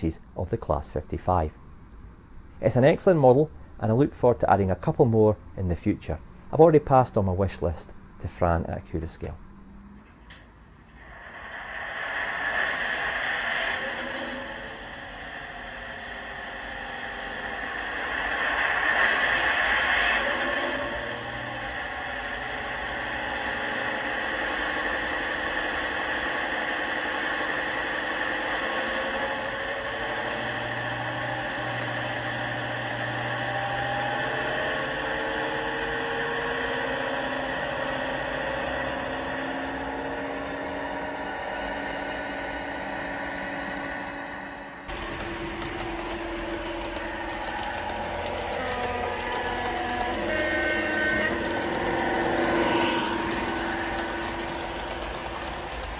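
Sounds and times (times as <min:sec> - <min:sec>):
model train diesel engine sound: 0:10.2 - 0:55.9.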